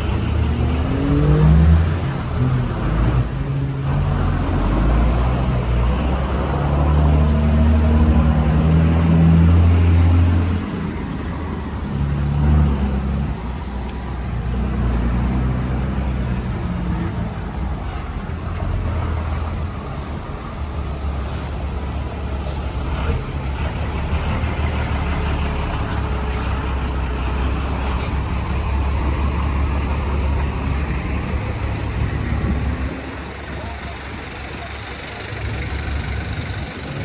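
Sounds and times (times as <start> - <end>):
vehicle engines humming: 0.0 - 37.0.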